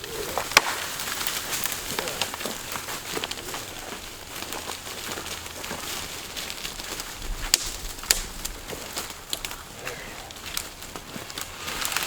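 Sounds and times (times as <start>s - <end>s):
brush and twigs crackling: 0.0s - 12.0s.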